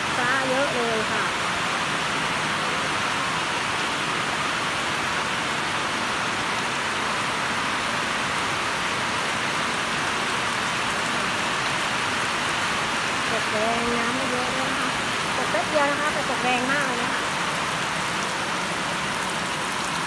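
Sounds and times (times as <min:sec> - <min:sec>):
heavy rain on leaves: 0:00.0 - 0:20.0.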